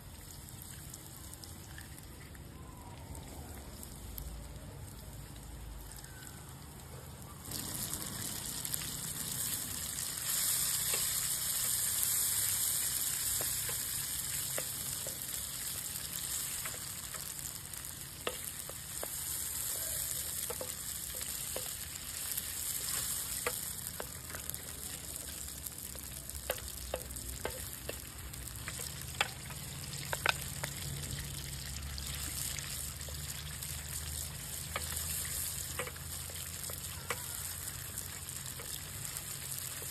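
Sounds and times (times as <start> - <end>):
food sizzling in a pan: 3.2 - 39.9
sharp pops and crackles: 7.4 - 39.9.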